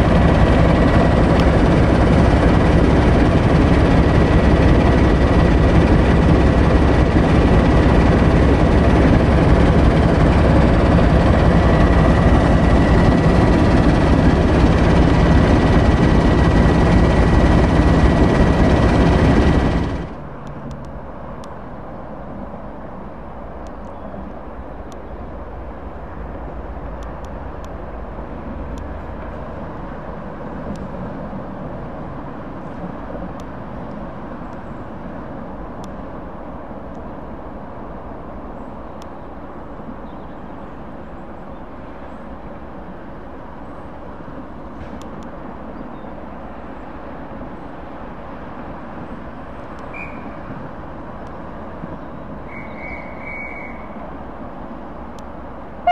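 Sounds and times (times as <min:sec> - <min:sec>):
train rumbling slowly: 0:00.0 - 0:55.9.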